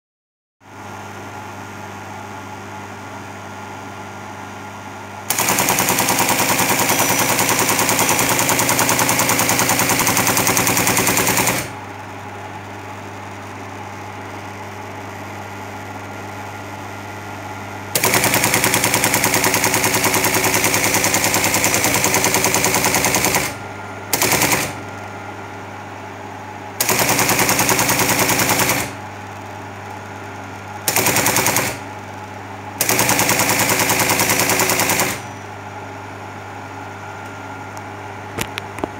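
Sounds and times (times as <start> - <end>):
steady machine hum: 0.6 - 38.9.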